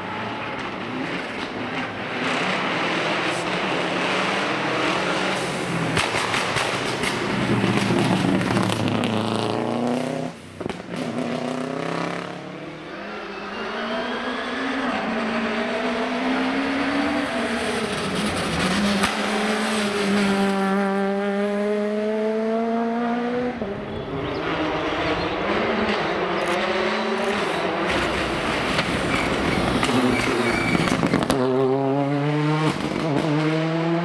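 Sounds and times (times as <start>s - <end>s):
car accelerating hard: 0.0s - 34.0s
rally car engines revving: 0.0s - 34.0s.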